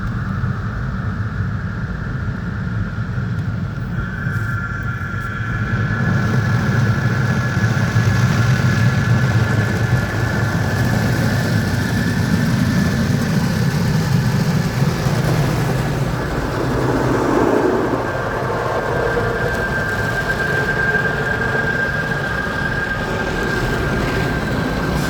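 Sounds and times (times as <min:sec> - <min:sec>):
thin steady whine: 0:00.0 - 0:25.0.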